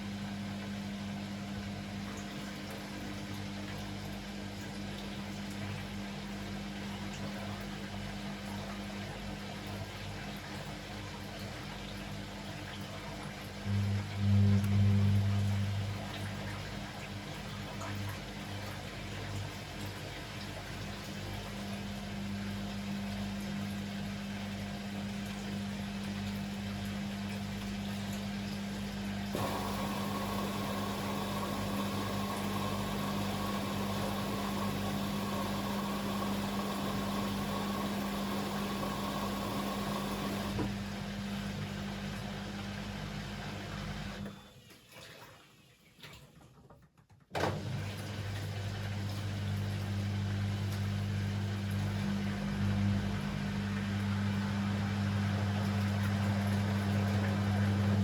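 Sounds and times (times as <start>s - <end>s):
washing machine humming: 0.0s - 46.3s, 47.3s - 58.0s.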